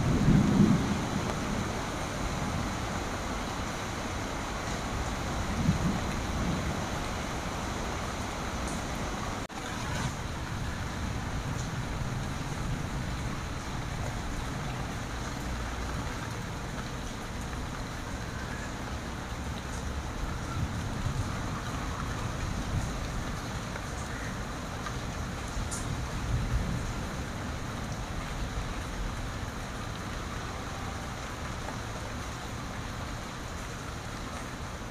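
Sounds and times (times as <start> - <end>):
rain falling on leaves: 0.0 - 34.9.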